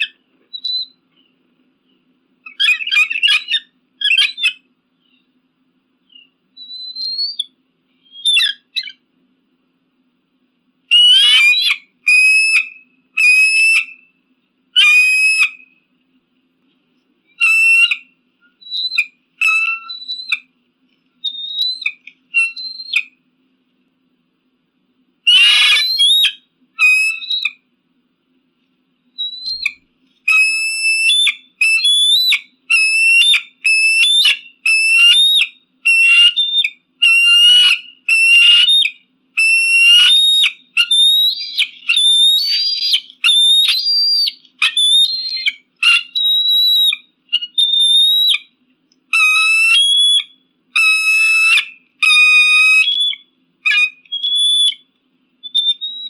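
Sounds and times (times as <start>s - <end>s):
eagle whistled calls: 0.0s - 5.3s, 6.0s - 9.0s, 10.9s - 14.1s, 14.8s - 15.8s, 17.3s - 20.5s, 21.2s - 23.2s, 25.3s - 27.6s, 29.2s - 56.0s.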